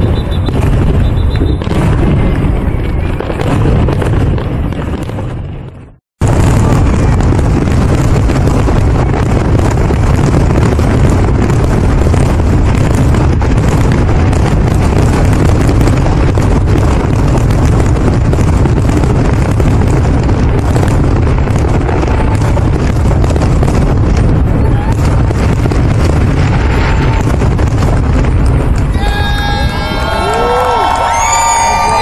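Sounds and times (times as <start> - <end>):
fireworks shell bursts rumbling: 0.0 - 29.8
fireworks crackle: 0.0 - 32.0.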